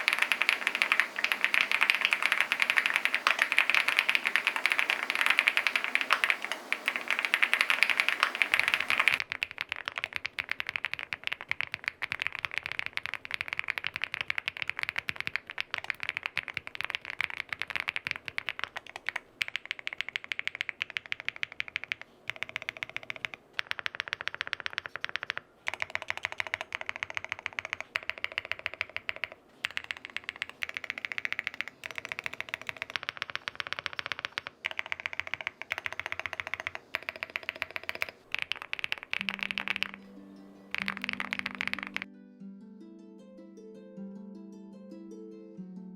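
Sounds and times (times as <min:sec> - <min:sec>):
mechanical keyboard typing: 0:00.0 - 0:40.1, 0:40.7 - 0:42.1.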